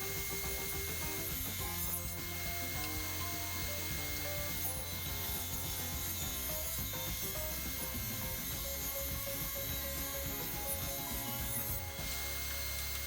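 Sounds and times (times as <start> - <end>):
background music: 0.0 - 13.0
woodworking machine humming: 0.0 - 13.0.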